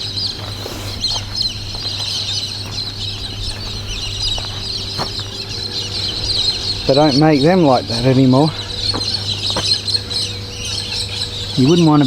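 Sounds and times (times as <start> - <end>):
constant low hum: 0.0 - 12.0
small birds chirping: 0.0 - 12.0.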